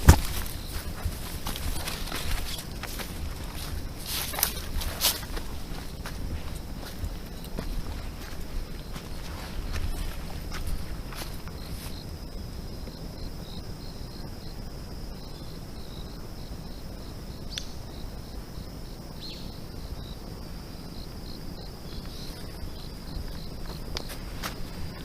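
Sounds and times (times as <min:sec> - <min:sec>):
insect chirps: 0:00.0 - 0:25.0
insects droning: 0:00.0 - 0:25.0.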